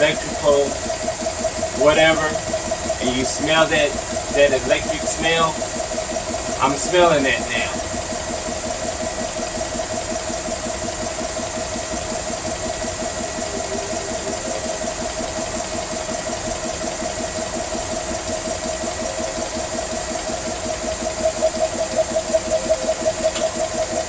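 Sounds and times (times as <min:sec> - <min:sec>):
air compressor pulsing hum: 0:00.0 - 0:24.0.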